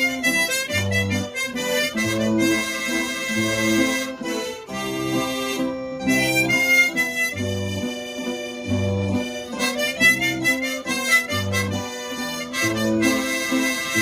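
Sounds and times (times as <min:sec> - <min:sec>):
guitar accompaniment: 0:00.0 - 0:14.0
harmonica playing chords: 0:00.0 - 0:14.0.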